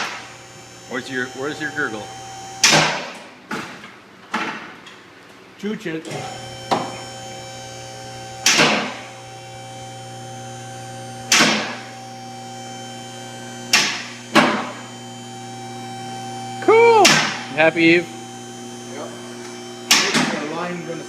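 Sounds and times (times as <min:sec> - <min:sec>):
electric hoist motor humming: 0:00.0 - 0:03.3, 0:06.0 - 0:21.0.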